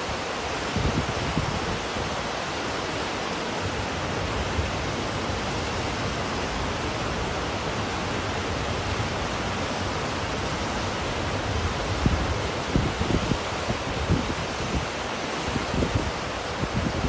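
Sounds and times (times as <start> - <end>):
stream running: 0.0 - 17.0
waterfall rushing: 0.0 - 17.0.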